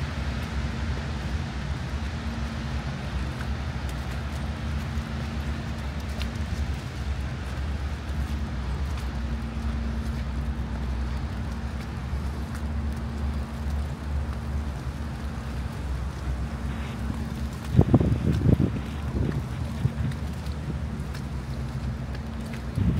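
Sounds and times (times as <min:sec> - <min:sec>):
low motor hum: 0:00.0 - 0:22.9
wind: 0:00.0 - 0:22.9.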